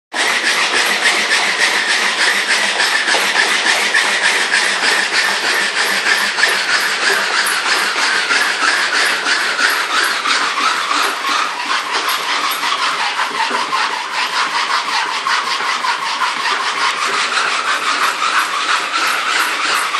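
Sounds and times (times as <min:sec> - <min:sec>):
whir of mill: 0:00.1 - 0:19.9.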